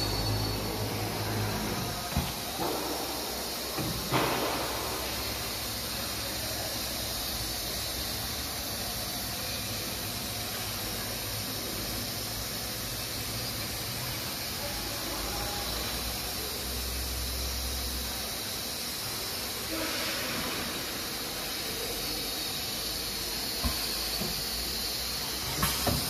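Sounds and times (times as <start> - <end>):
steady machinery hiss: 0.0 - 26.0.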